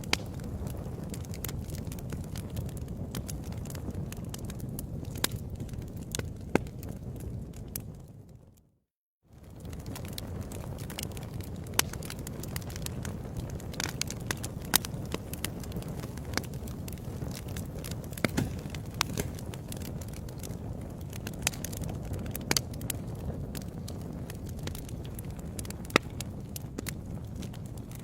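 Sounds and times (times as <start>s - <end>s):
sharp pops of burning wood: 0.0s - 8.0s, 9.4s - 28.0s
wood fire crackling: 0.0s - 8.6s, 9.3s - 28.0s.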